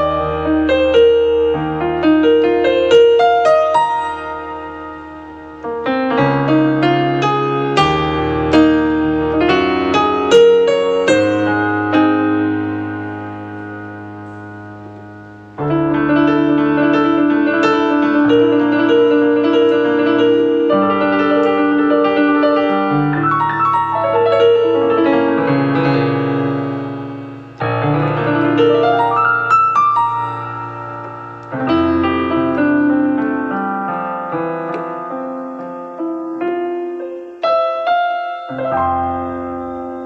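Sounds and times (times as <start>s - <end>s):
keyboard playing piano chords: 0.0s - 40.0s.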